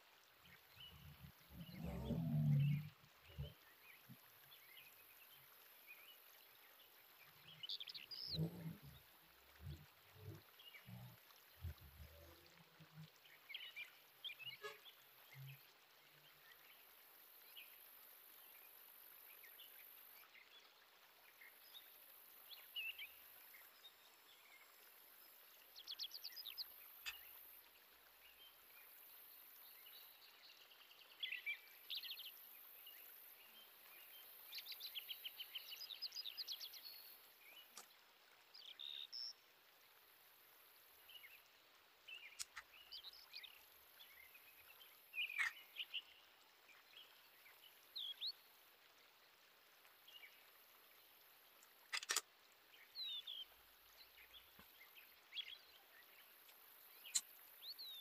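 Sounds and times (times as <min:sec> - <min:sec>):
small birds chirping: 0:00.4 - 0:17.8, 0:21.3 - 0:27.6, 0:28.2 - 0:39.4, 0:41.0 - 0:48.4, 0:49.8 - 0:58.0.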